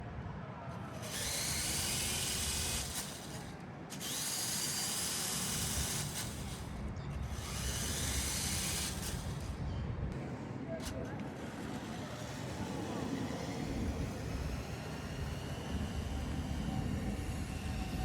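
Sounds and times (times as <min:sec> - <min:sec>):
toy car motor and gears whirring: 0:00.7 - 0:09.6, 0:10.8 - 0:18.0.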